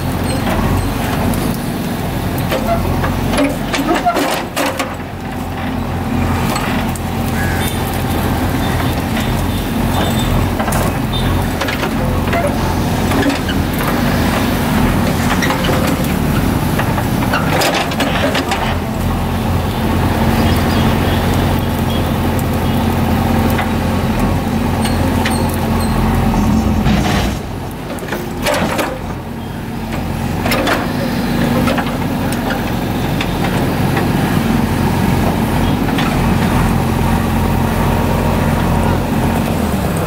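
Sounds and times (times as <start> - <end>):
diesel engine under load: 0.0 - 40.0.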